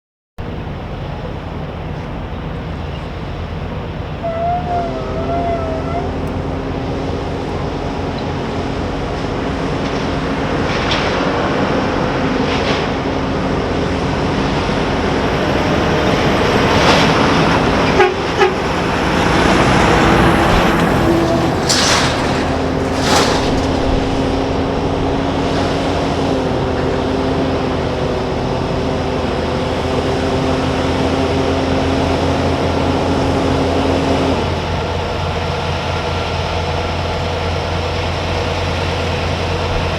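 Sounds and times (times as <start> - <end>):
heavy traffic noise: 0.4 - 39.9
truck engines running: 0.4 - 39.9.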